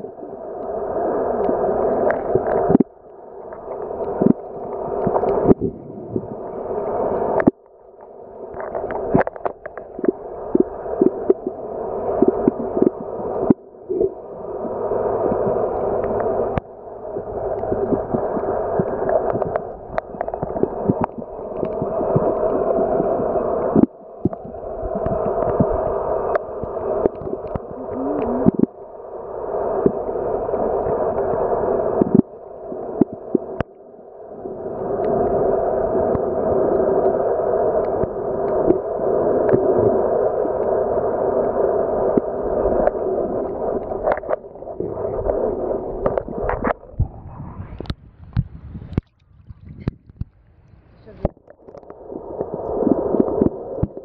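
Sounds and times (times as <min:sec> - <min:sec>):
muffled underwater noise: 0:00.0 - 0:54.0.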